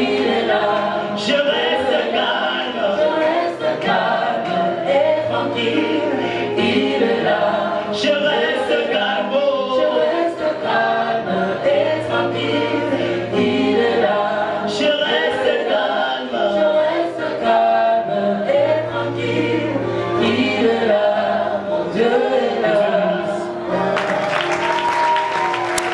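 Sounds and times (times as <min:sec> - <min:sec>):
gospel choir singing: 0:00.0 - 0:25.9.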